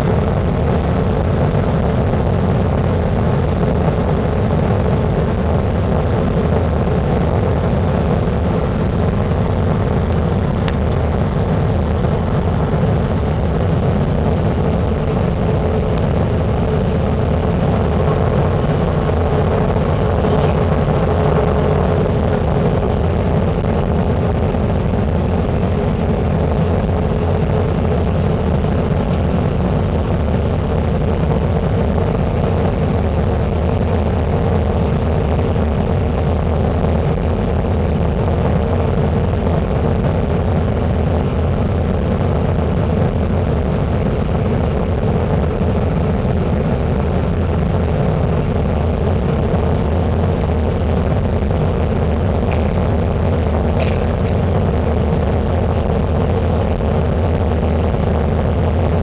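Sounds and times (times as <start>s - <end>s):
jet engines roaring: 0.0s - 59.0s
rushing air: 0.0s - 59.0s.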